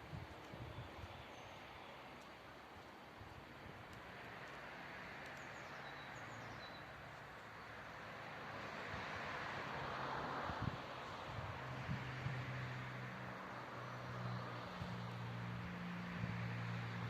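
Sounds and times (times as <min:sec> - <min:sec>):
vehicle engine hum: 0:00.1 - 0:17.0.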